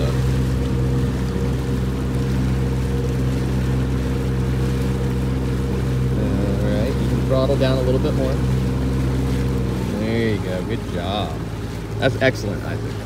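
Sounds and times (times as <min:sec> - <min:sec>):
outboard engine running: 0:00.0 - 0:13.0
water wash: 0:00.0 - 0:13.0.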